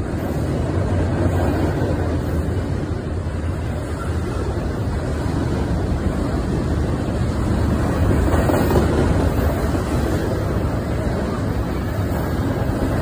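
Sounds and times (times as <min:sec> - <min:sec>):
steel wheels rumbling on rails: 0:00.0 - 0:13.0.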